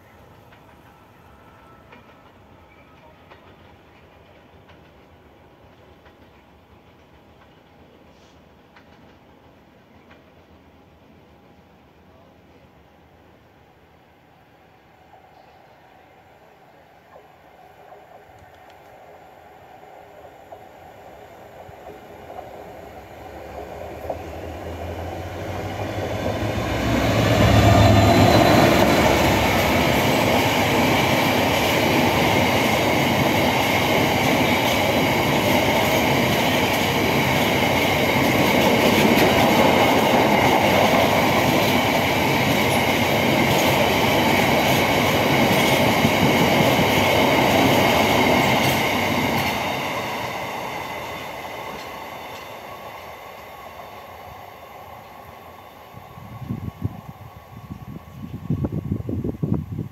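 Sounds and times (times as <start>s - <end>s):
diesel locomotive passing: 0.0s - 12.3s, 13.0s - 59.9s.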